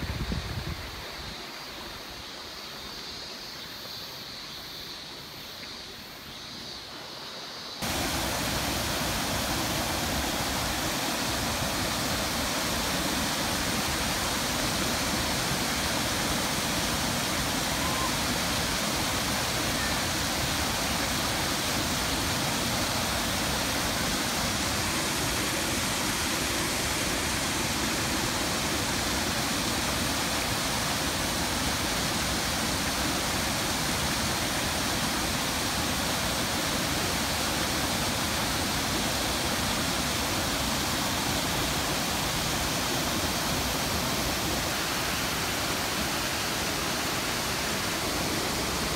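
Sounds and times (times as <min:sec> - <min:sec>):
water rushing over weir: 0:07.8 - 0:48.9.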